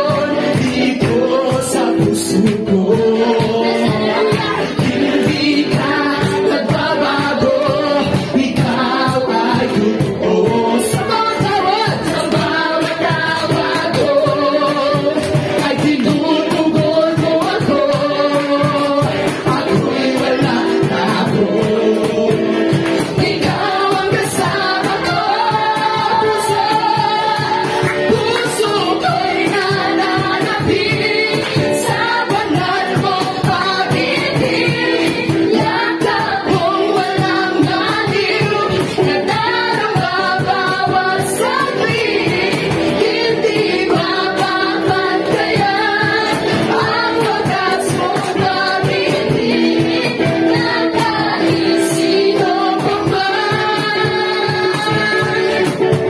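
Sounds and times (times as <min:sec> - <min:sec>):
instrumental backing: 0:00.0 - 0:56.0
women singing into microphones: 0:00.0 - 0:56.0.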